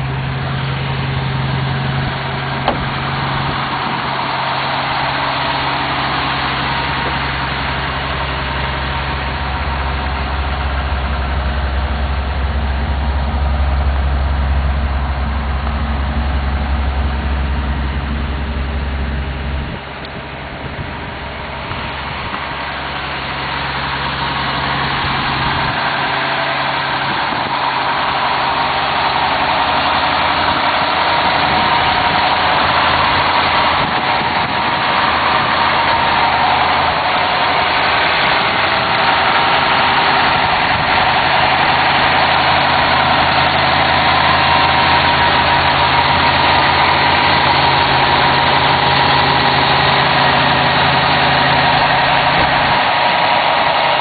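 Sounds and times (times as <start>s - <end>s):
car engine running steadily: 0.0s - 54.0s.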